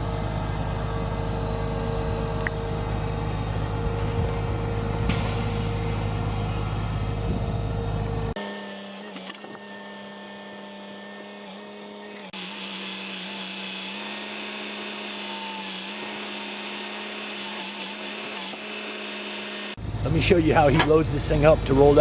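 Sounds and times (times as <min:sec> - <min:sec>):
motor drone with whine: 0:00.0 - 0:22.0.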